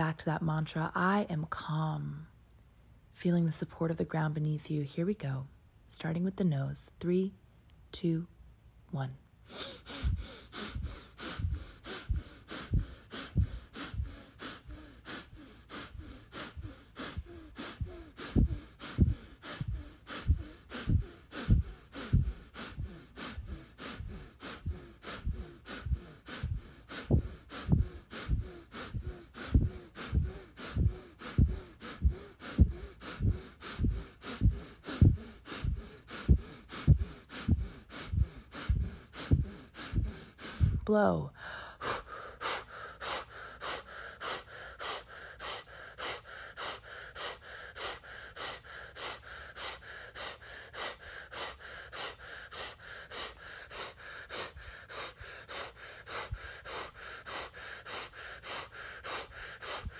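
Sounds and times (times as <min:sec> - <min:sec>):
rapid forceful nose breathing: 0:09.4 - 0:59.9.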